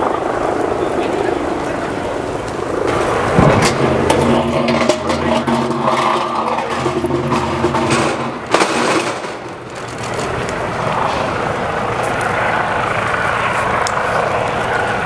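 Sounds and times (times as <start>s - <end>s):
engine drone: 0.0s - 15.0s
rushing noise: 0.0s - 15.0s.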